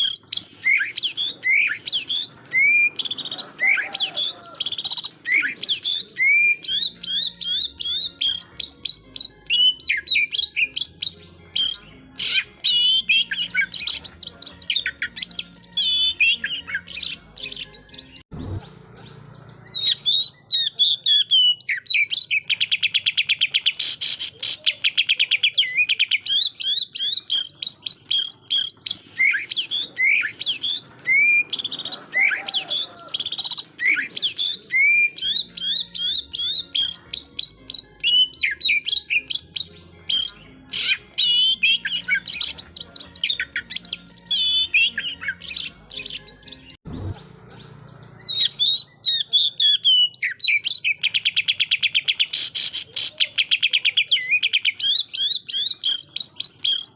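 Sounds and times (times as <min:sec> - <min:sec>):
bird singing whistles: 0:00.0 - 0:18.7, 0:19.7 - 0:46.8, 0:48.1 - 0:56.9.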